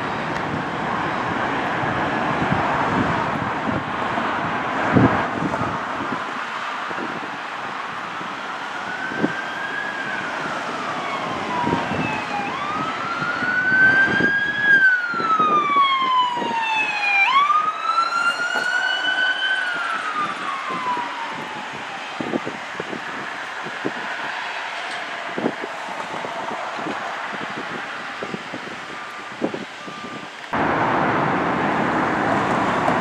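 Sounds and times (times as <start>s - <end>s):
emergency siren wailing: 0.0s - 33.0s.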